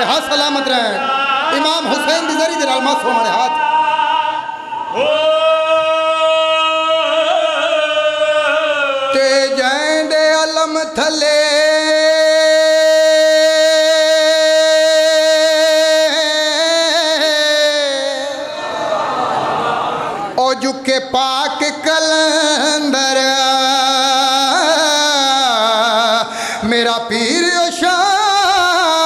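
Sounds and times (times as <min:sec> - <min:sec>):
man singing devotional song: 0:00.0 - 0:18.6, 0:20.4 - 0:29.0.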